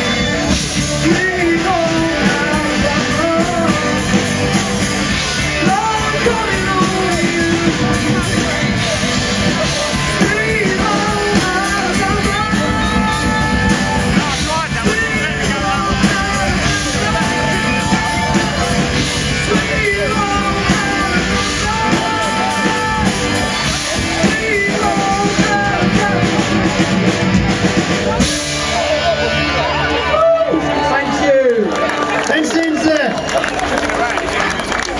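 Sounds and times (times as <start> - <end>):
lead singer belting: 0.0 - 30.9
rock band playing: 0.0 - 34.9.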